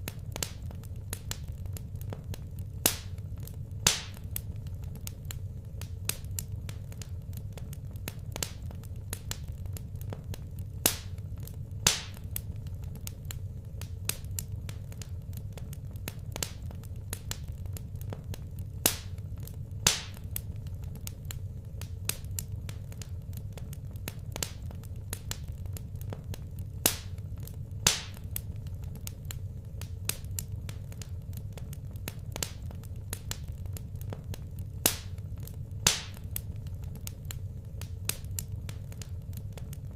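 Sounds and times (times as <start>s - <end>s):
fire pops: 0.0s - 39.9s
low steady rumble: 0.0s - 39.9s
wood fire crackling: 0.0s - 39.9s.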